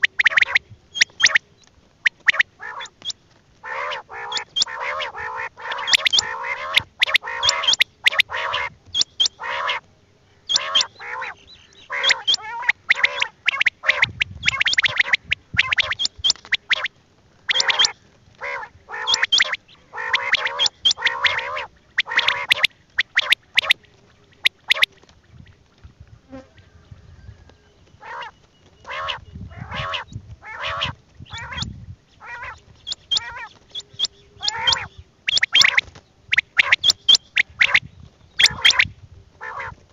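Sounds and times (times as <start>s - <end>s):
quails calling: 0.0s - 39.9s.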